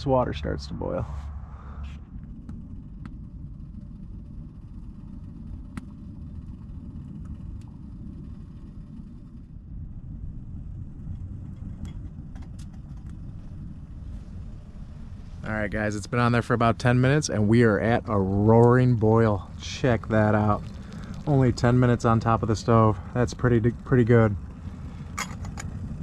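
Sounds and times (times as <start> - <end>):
distant highway traffic rumble: 0.0 - 26.0.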